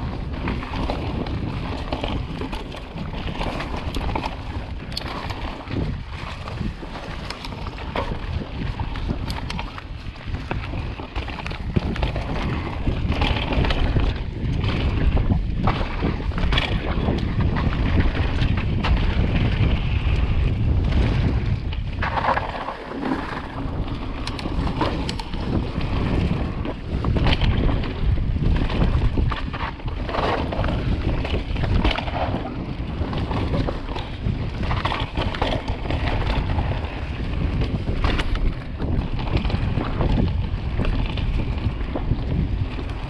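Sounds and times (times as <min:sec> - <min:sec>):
bike rattling over bumps: 0:00.0 - 0:43.0
wind rumbling on microphone: 0:00.0 - 0:43.0
tyres on dirt: 0:00.3 - 0:43.0.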